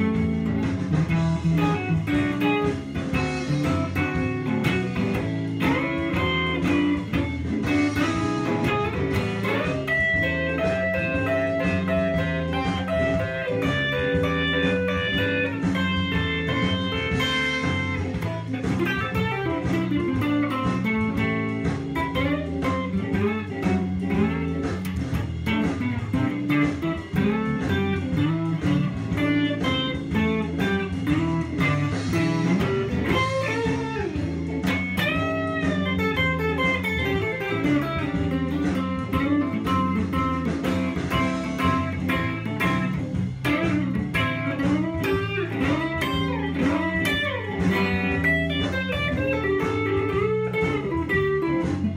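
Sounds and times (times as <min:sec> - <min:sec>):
electric guitar blues lead: 0:00.0 - 0:51.9.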